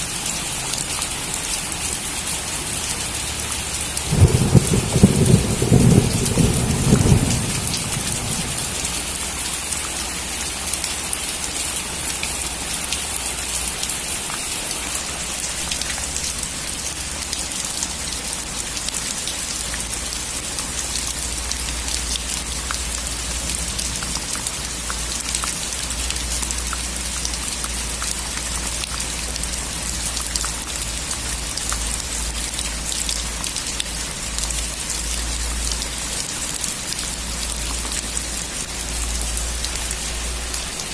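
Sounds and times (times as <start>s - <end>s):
raindrops ticking: 0.0s - 40.9s
steady rain hiss: 0.0s - 40.9s.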